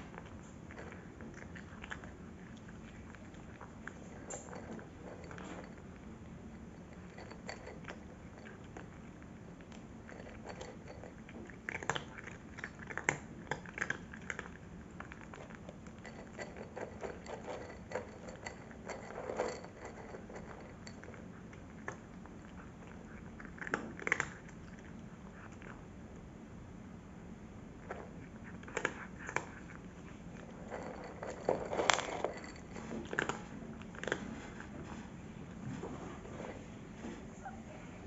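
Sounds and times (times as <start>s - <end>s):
cat crunching dry kibble: 0.0s - 26.1s, 27.8s - 35.0s.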